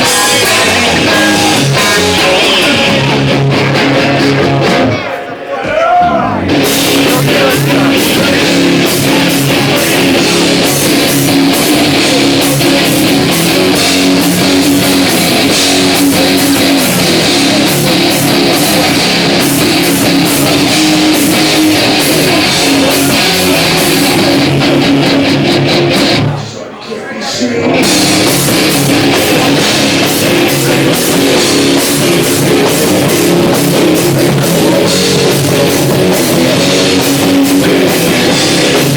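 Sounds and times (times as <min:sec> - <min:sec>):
strummed electric guitar: 0:00.0 - 0:05.2, 0:06.1 - 0:26.5, 0:27.6 - 0:38.9
live rock band playing: 0:00.0 - 0:05.3, 0:06.2 - 0:26.5, 0:27.6 - 0:38.9.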